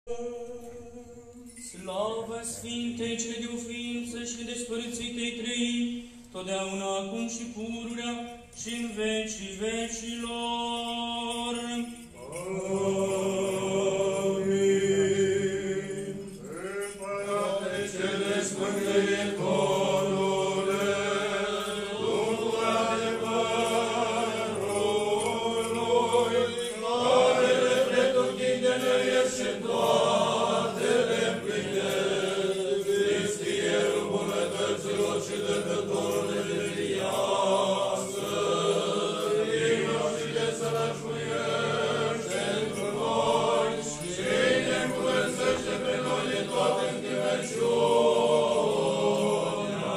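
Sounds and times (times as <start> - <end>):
men chanting a hymn: 0.1 - 49.9.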